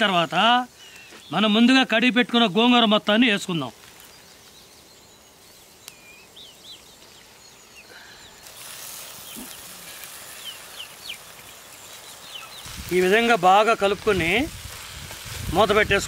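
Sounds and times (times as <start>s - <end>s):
faint birds chirping: 0.0s - 16.0s
soft hiss: 0.0s - 16.0s.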